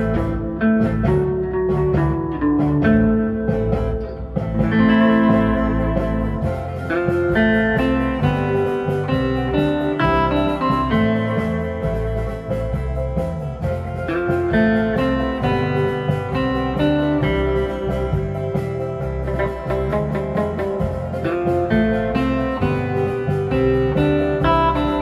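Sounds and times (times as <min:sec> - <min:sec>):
bass line: 0:00.0 - 0:25.0
bluesy plucked guitar: 0:00.0 - 0:25.0.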